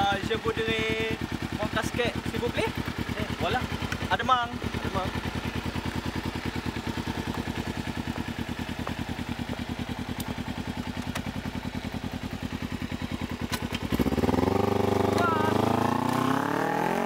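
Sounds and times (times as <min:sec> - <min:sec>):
motorcycle engine idling: 0:00.0 - 0:16.1.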